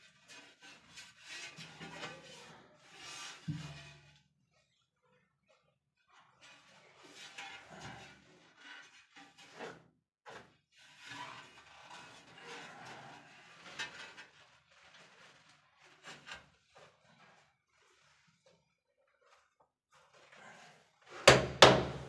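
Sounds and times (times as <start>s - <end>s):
tile rubbing and scraping: 0.2s - 4.1s, 6.3s - 21.2s.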